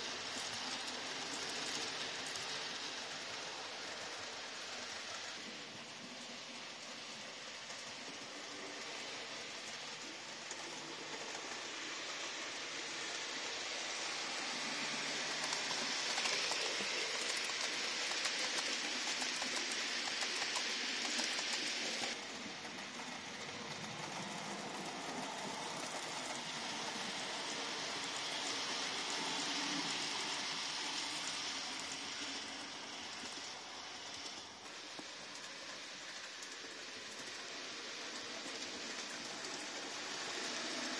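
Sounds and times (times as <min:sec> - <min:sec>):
model train wheels on rails: 0:00.0 - 0:40.9.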